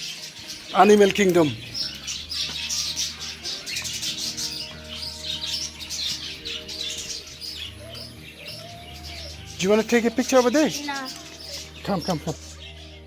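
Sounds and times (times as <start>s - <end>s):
music with long held notes: 0.0s - 13.0s
small birds chirping: 0.0s - 13.0s.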